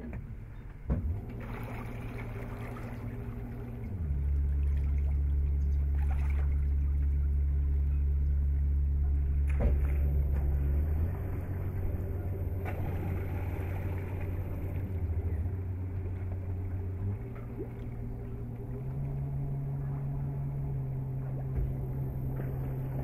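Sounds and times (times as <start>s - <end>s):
electric boat motor humming: 0.0s - 23.0s.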